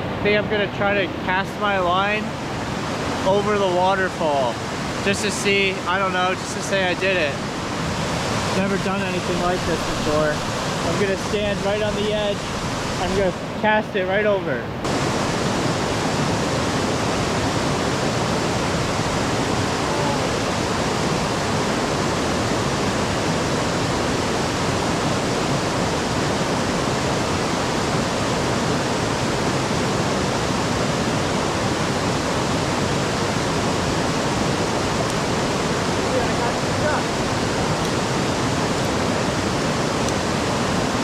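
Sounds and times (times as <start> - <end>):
waterfall rushing: 1.1 - 14.0, 14.8 - 41.0.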